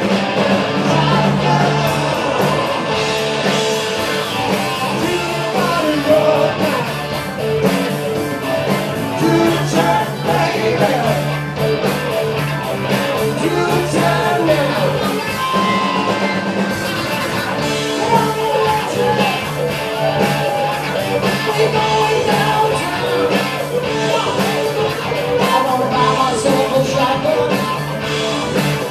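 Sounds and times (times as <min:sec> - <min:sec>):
rock band playing live: 0:00.0 - 0:28.9.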